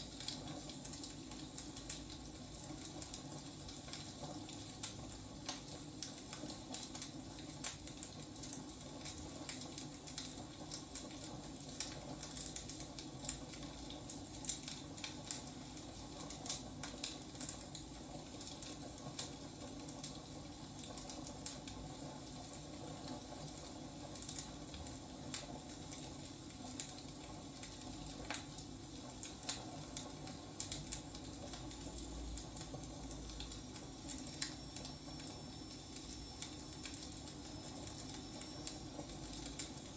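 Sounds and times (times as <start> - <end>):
wood fire burning: 0.0 - 39.9.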